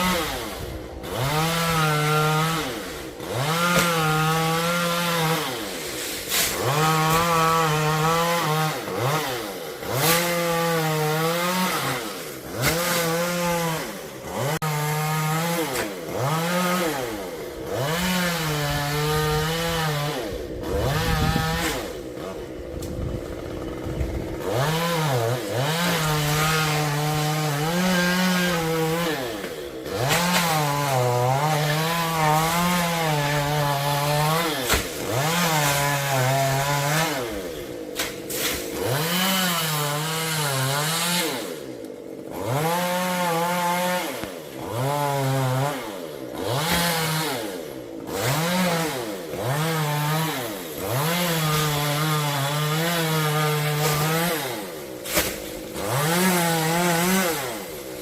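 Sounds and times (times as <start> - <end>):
chainsaw revving cutting wood: 0.0 - 58.0.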